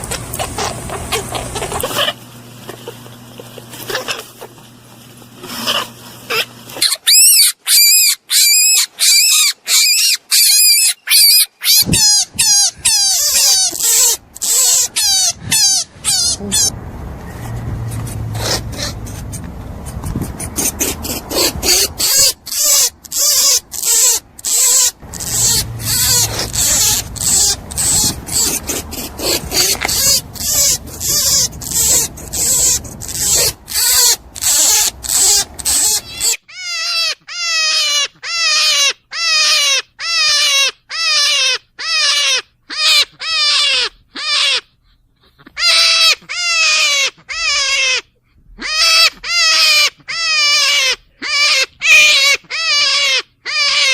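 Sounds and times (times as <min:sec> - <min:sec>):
rabbit squealing: 0:00.0 - 0:04.6, 0:05.4 - 0:16.8, 0:17.9 - 0:53.9.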